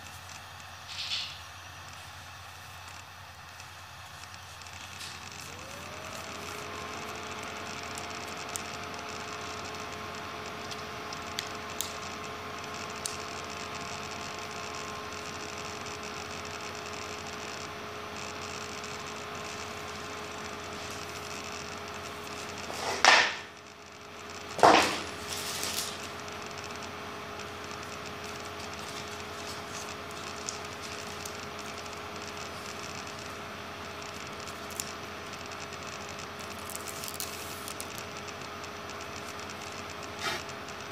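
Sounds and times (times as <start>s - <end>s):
steady tonal hum: 0.0s - 40.9s.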